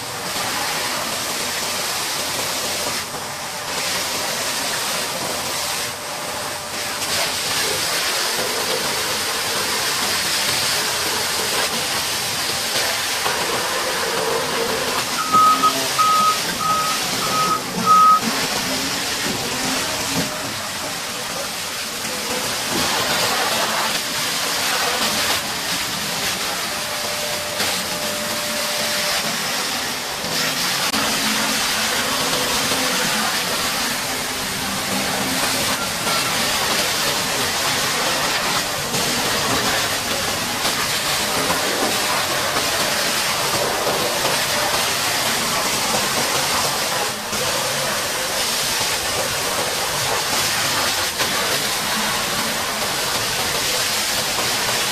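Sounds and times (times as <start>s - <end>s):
high-pressure water jet hissing: 0.0s - 54.9s.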